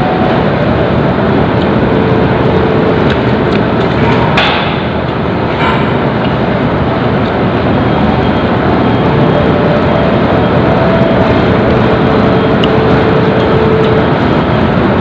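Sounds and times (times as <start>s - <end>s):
engine and road noise rumble: 0.0s - 15.0s.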